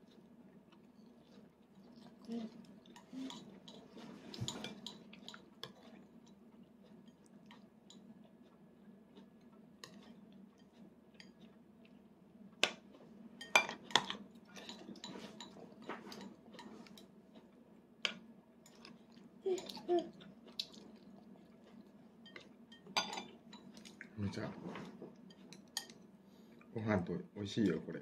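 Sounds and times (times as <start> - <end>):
child chewing: 0.0 - 26.7
faint steady hum: 0.0 - 28.0.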